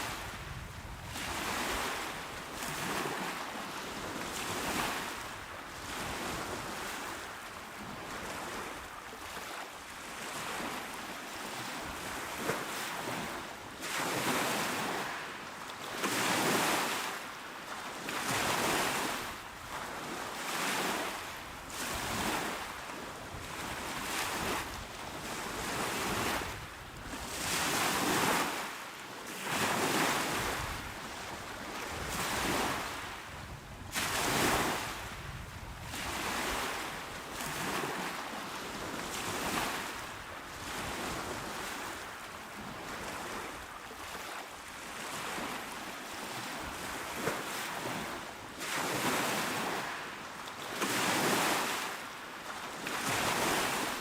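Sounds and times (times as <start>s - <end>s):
small waves washing onto shore: 0.0s - 54.0s.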